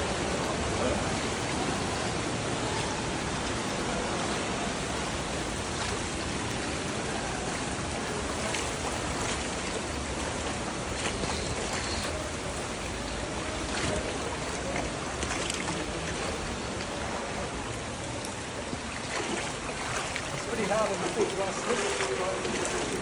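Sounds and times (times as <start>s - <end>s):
stream water rushing over rocks: 0.0s - 23.0s.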